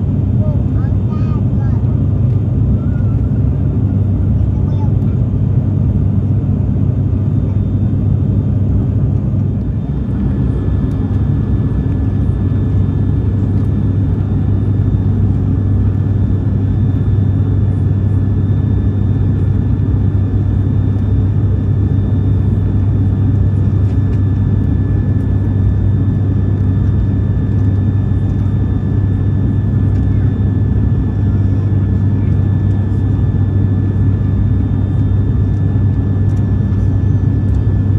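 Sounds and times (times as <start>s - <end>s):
propeller plane cabin drone: 0.0s - 37.9s.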